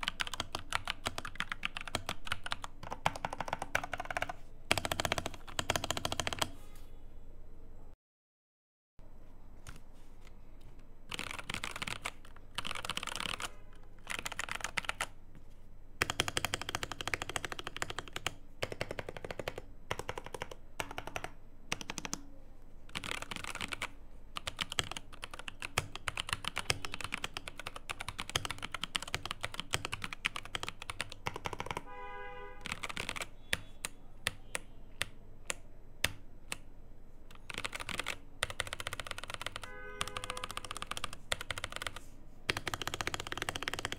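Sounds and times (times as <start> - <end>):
mechanical keyboard typing: 0.0 - 6.6, 11.1 - 15.2, 16.0 - 22.3, 22.9 - 31.8, 32.6 - 36.7, 37.3 - 43.9.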